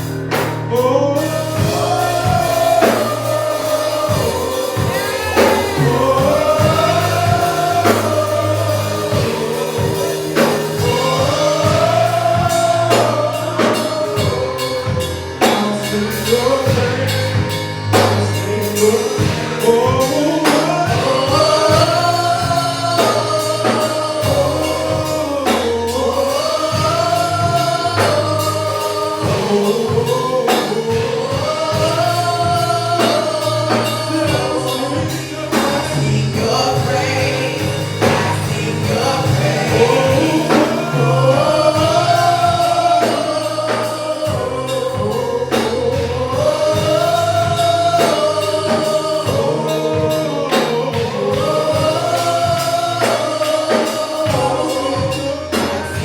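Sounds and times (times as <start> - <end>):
live band with bass and drums: 0.0 - 56.0
voices singing gospel: 0.0 - 56.0.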